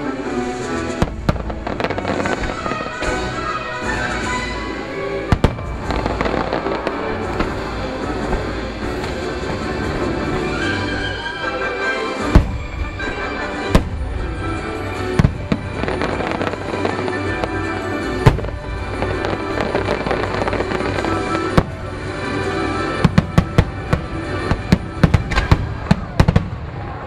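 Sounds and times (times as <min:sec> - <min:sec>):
holiday music: 0:00.0 - 0:26.3
fireworks bursting: 0:00.0 - 0:27.0.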